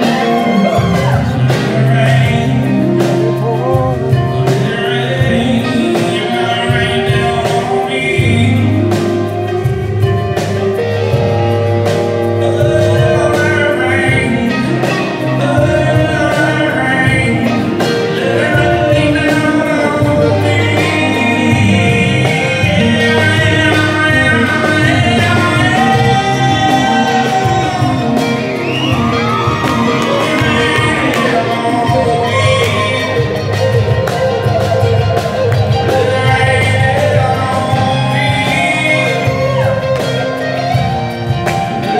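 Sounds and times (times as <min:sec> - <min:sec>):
male lead vocal: 0:00.0 - 0:41.0
acoustic guitars: 0:00.0 - 0:41.9
keyboard: 0:00.0 - 0:41.9.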